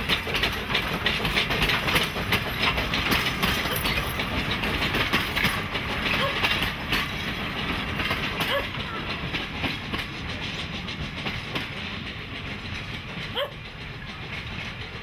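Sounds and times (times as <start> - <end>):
train rumble: 0.0 - 15.0
wheels clicking over rail joints: 0.0 - 15.0.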